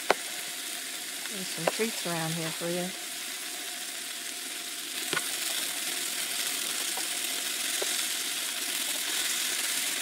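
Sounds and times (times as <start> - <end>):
vegetables sizzling in a skillet: 0.0 - 10.0.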